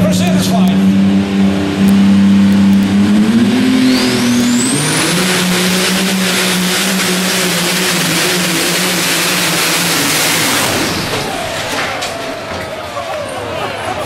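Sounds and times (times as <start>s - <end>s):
high whine: 0.0s - 12.7s
tractor engine running loud: 0.0s - 13.0s.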